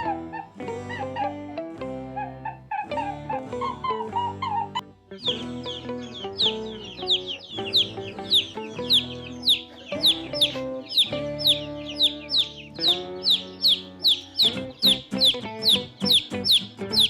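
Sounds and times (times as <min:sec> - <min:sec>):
background music with chords: 0:00.0 - 0:17.0
chickens calling: 0:00.0 - 0:17.0.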